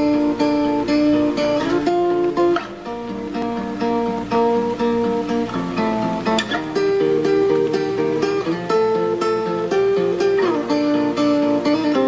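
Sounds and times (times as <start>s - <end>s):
guitar playing plucked notes: 0.0s - 12.0s.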